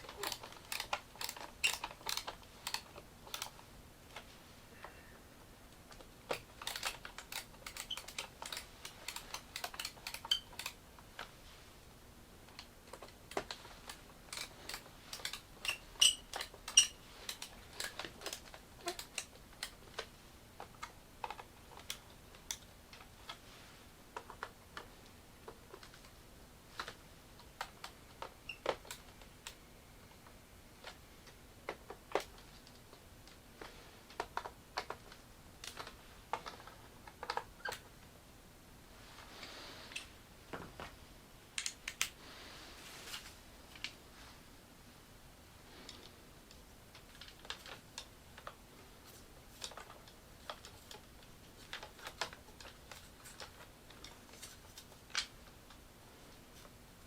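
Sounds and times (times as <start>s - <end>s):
plastic parts clicking and tapping: 0.0s - 5.0s, 5.7s - 11.4s, 12.4s - 23.5s, 24.1s - 38.0s, 39.9s - 42.2s, 45.8s - 55.8s.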